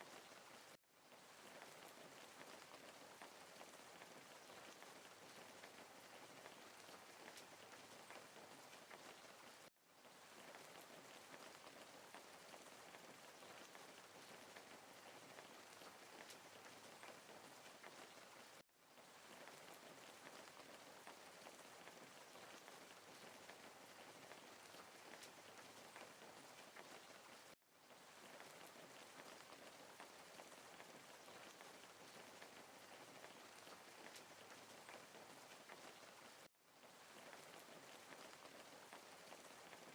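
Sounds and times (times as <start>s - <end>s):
faint rain falling: 0.0s - 39.9s
raindrops pattering: 0.0s - 39.9s.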